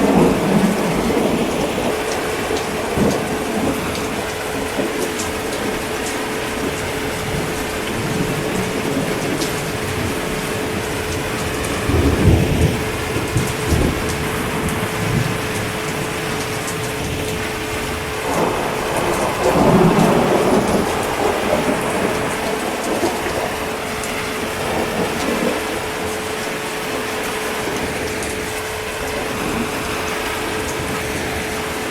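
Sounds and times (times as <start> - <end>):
heavy rain: 0.0 - 31.9
rolling thunder: 0.0 - 31.9.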